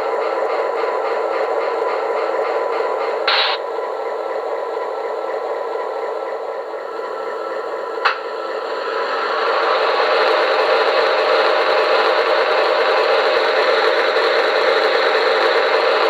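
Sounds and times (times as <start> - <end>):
model train diesel engine sound: 0.0 - 16.0.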